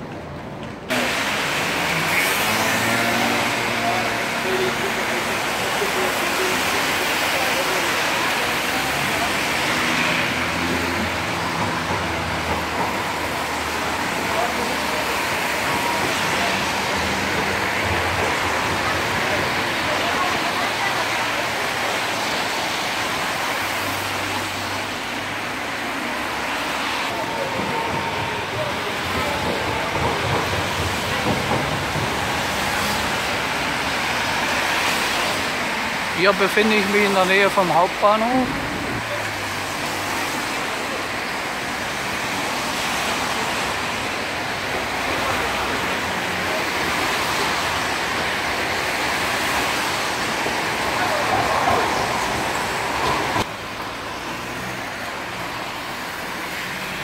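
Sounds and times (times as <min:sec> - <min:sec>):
traffic on wet street: 0:00.0 - 0:57.0.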